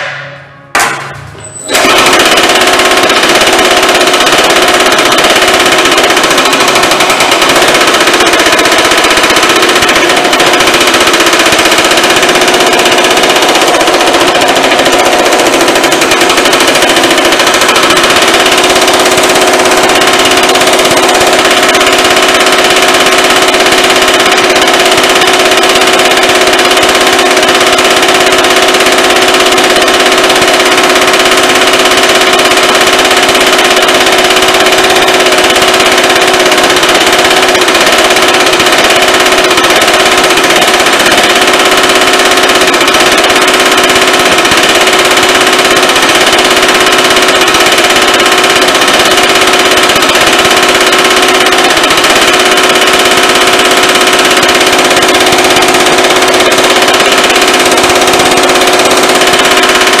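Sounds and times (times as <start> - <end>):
power hammer on sheet metal: 0.0 - 60.0.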